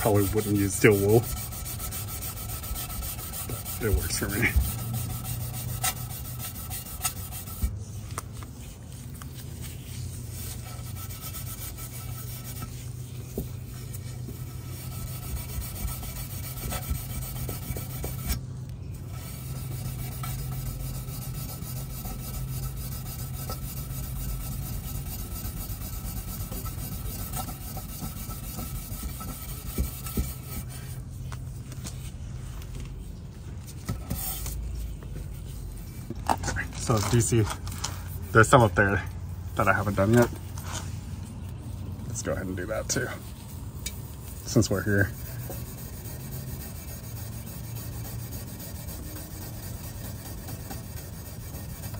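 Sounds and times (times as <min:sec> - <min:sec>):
steel wool scrubbing metal: 0:00.0 - 0:32.1, 0:33.6 - 0:51.9.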